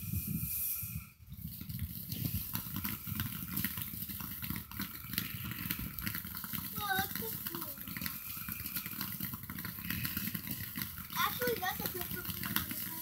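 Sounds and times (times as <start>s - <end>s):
fireworks crackling pops: 0.0s - 13.0s.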